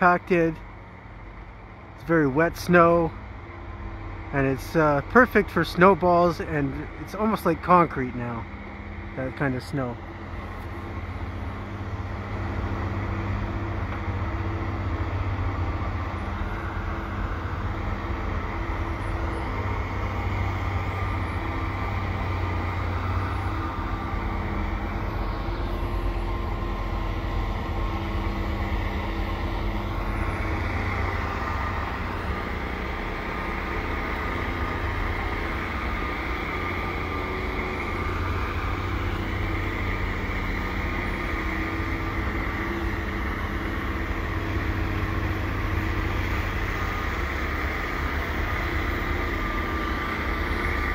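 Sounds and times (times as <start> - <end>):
heavy diesel engines droning: 0.0 - 50.9
high engine whine: 0.0 - 50.9.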